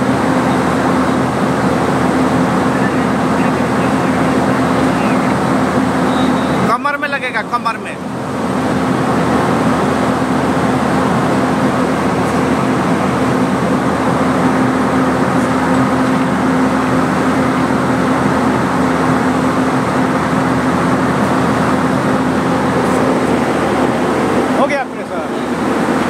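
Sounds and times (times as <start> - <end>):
constant low hum: 0.0 - 26.0
locomotive machinery running: 0.0 - 26.0.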